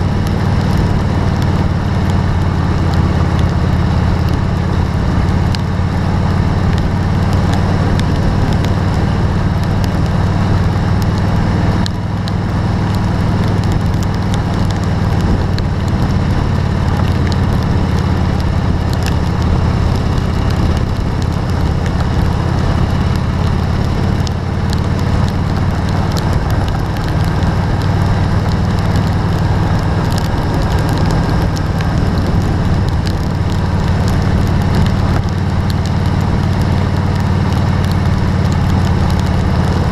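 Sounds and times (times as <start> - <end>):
crackling drop impacts: 0.0 - 39.9
heavy rain falling: 0.0 - 39.9
low engine hum: 0.0 - 39.9.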